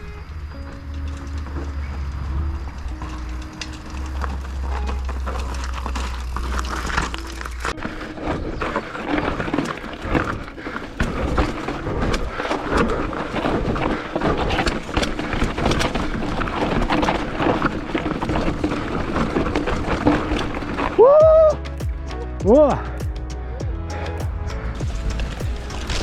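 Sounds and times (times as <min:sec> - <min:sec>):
tyres clattering on stones: 0:00.0 - 0:21.8, 0:24.8 - 0:26.0.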